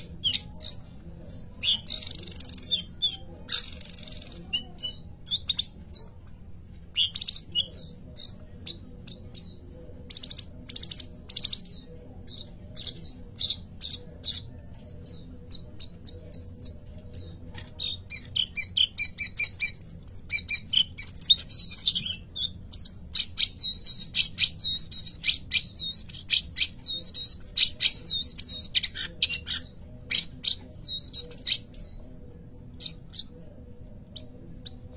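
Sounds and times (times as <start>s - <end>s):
faint low hum: 0.0s - 34.9s
songbird chirping and trilling: 0.0s - 34.9s.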